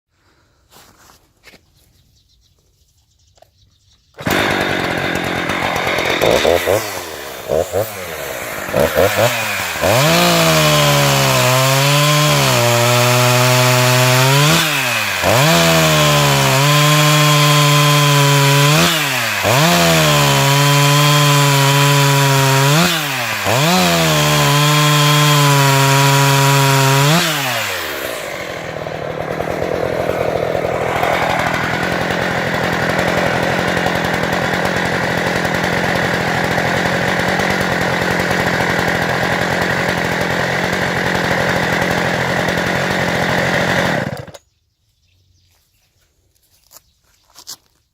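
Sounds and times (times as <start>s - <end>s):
chainsaw engine revving: 4.2s - 44.4s.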